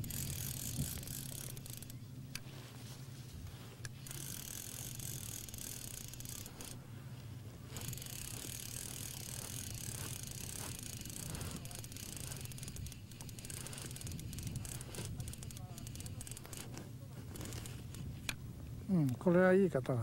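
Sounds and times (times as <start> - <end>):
fishing reel whirring and clicking: 0.0 - 2.5, 3.4 - 6.8, 7.6 - 18.4.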